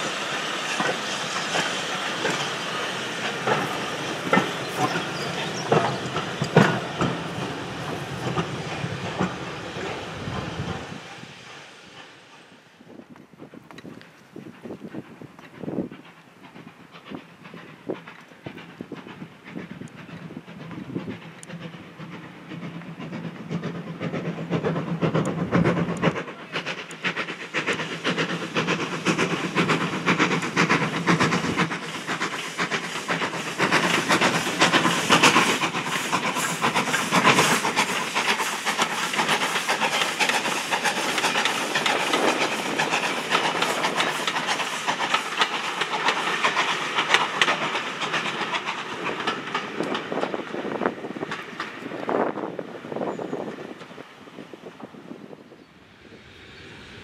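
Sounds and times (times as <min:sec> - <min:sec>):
coaches rattling over rail joints: 0:00.0 - 0:10.9, 0:13.4 - 0:57.0
steam engine exhaust beating: 0:00.0 - 0:12.3, 0:14.3 - 0:53.0.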